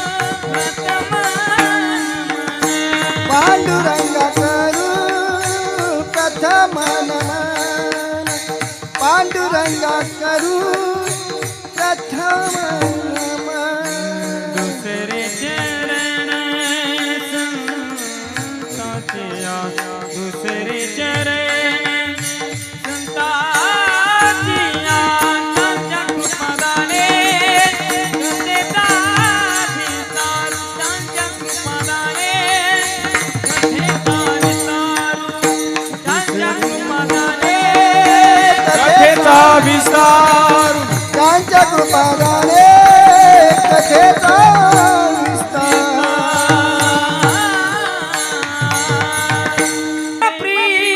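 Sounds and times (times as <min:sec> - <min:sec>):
person singing devotional melody: 0:00.0 - 0:50.9.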